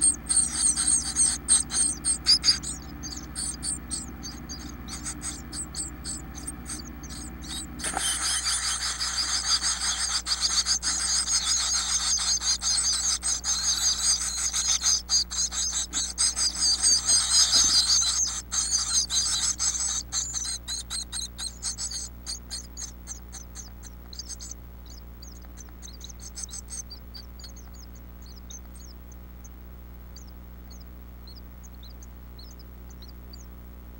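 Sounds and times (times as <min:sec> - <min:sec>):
scratching in nest material: 0:00.0 - 0:29.0
nestlings cheeping: 0:00.0 - 0:33.7.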